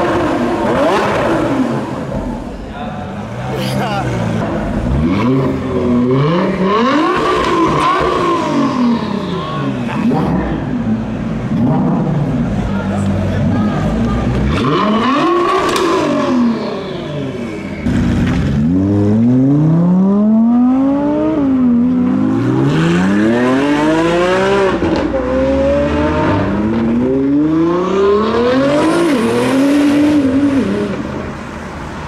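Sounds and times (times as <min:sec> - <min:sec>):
sports car engine accelerating: 0:00.0 - 0:32.0.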